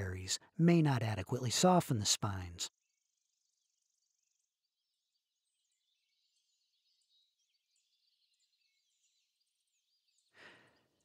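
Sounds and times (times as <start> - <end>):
faint bird chirps: 1.9 - 11.0.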